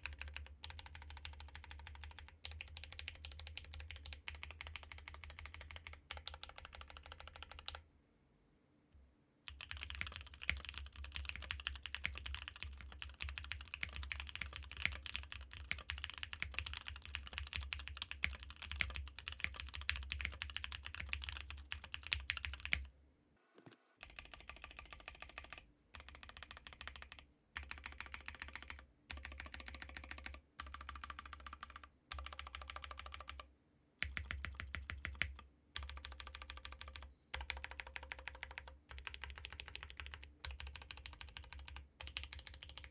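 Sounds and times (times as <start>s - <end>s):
fast typing on mechanical keyboard: 0.0s - 7.8s, 9.5s - 22.9s, 24.0s - 42.9s.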